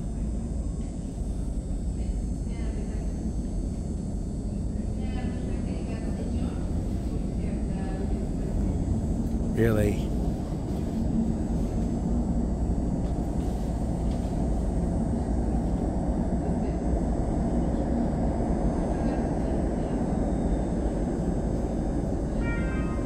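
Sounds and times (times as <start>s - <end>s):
subway station low rumble: 0.0s - 23.0s.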